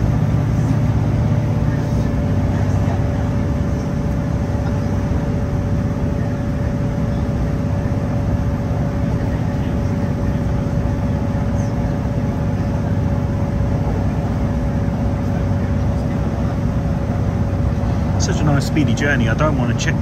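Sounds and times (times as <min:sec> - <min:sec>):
constant whine: 0:00.0 - 0:20.0
train rumbling on track: 0:00.0 - 0:20.0.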